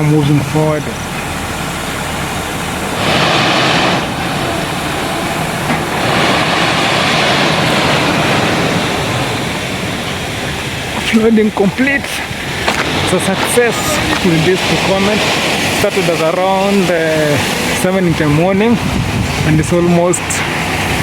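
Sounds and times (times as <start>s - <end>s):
tipper truck running: 0.0s - 21.0s
loud rushing noise: 0.7s - 21.0s.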